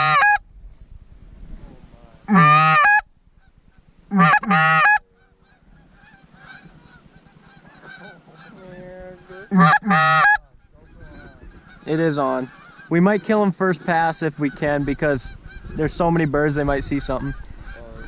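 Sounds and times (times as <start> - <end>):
faint geese honking: 0.0 - 0.4, 1.6 - 18.0
loud goose calls honking: 0.0 - 0.4, 2.1 - 18.0.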